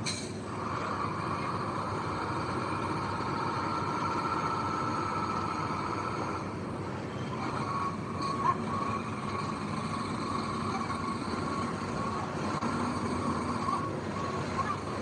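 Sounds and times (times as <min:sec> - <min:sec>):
heavy construction machinery running: 0:00.0 - 0:15.0.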